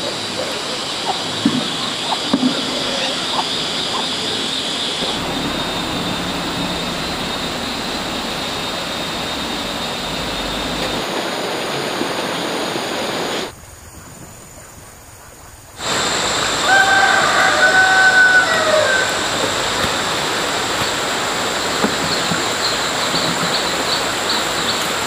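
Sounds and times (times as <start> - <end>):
rushing outdoor ambience: 0.0 - 25.0.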